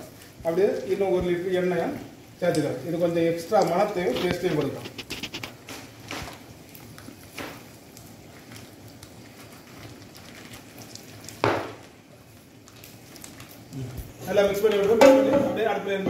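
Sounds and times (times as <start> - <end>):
oil poured over vegetables: 0.0 - 16.0.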